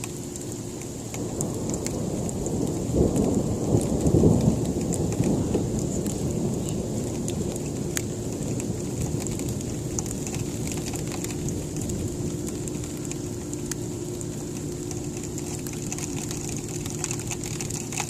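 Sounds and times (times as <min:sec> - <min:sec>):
sleet pattering on window: 0:00.0 - 0:18.0
thunder rumble: 0:00.0 - 0:18.0.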